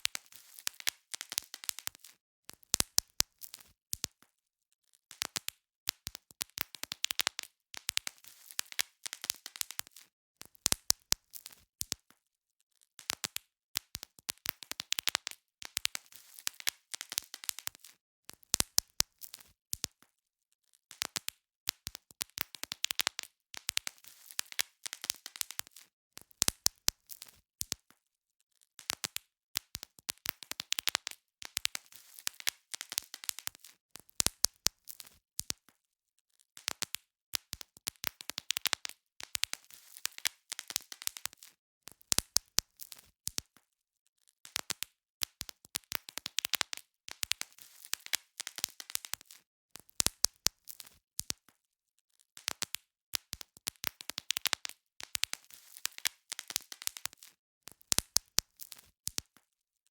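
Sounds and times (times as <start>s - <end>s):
bubble wrap popping: 0.0s - 4.3s, 5.1s - 12.2s, 13.0s - 20.1s, 20.9s - 28.0s, 28.8s - 35.8s, 36.6s - 43.6s, 44.4s - 51.6s, 52.4s - 59.4s.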